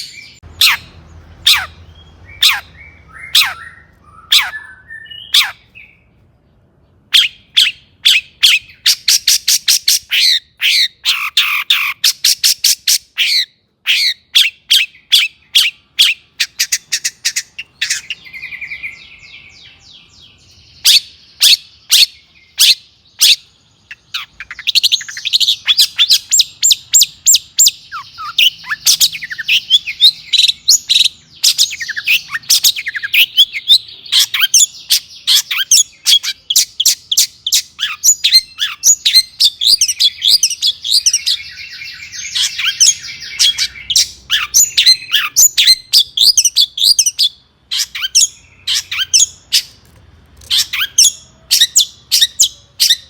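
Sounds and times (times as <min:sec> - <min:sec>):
bird singing harsh fast song: 0:00.0 - 0:53.0.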